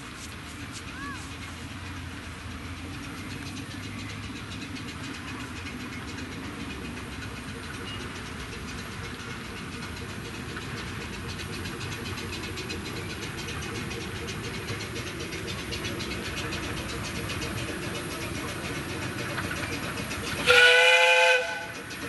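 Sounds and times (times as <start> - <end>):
miniature steam train running: 0.0 - 22.0
fine rapid ticking: 0.4 - 22.0.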